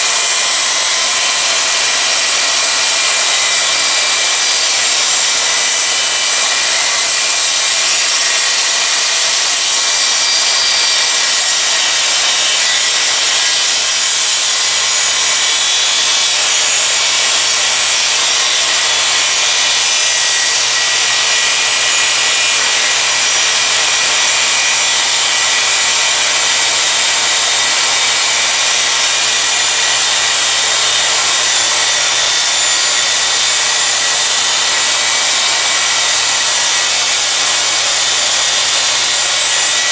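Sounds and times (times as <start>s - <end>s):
miter saw cutting wood: 0.0s - 39.9s.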